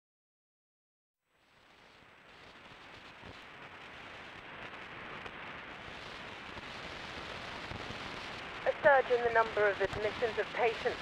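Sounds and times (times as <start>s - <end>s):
dense static-like electronic hiss: 1.2s - 11.0s.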